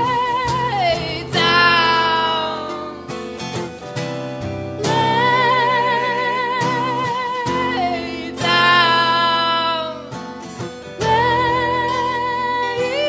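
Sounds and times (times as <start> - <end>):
woman singing: 0.0 - 3.4, 4.8 - 13.0
bass guitar: 0.0 - 13.0
strummed acoustic guitar: 0.0 - 13.0.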